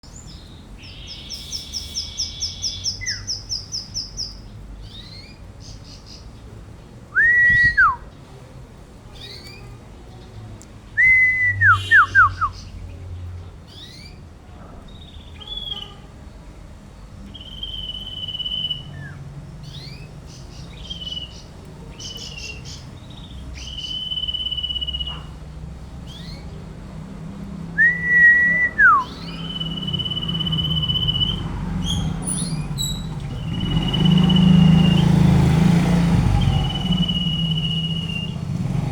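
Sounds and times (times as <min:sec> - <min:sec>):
songbird singing: 0:00.0 - 0:08.5, 0:09.1 - 0:38.9.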